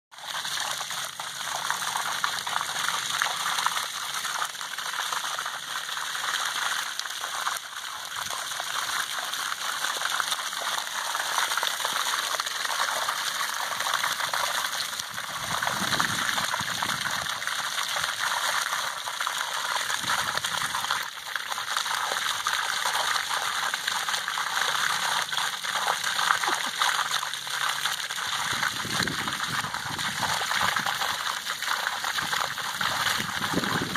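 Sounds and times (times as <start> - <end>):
water gushing from a pipe: 0.1 - 33.9
water splashing on concrete: 0.1 - 33.9.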